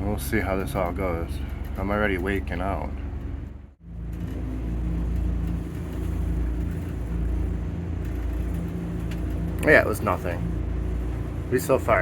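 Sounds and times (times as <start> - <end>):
outboard motor running: 0.0 - 12.0
wind rumbling on microphone: 0.0 - 12.0.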